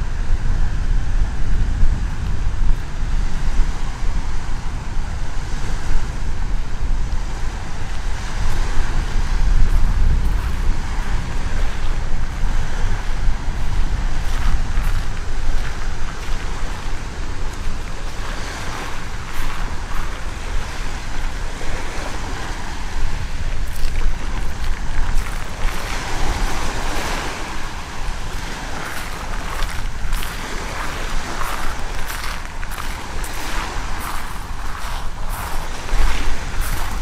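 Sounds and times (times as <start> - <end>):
surf washing up beach: 0.0 - 37.0
wind rumbling on microphone: 0.0 - 37.0.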